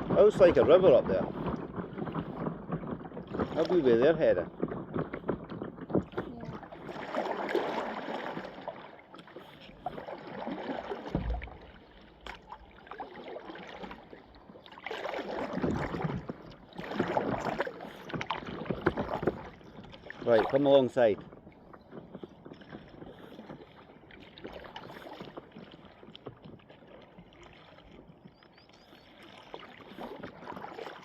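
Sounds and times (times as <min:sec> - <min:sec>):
paddle splashing in water: 0:00.0 - 0:31.0
water lapping and dripping: 0:00.0 - 0:31.0.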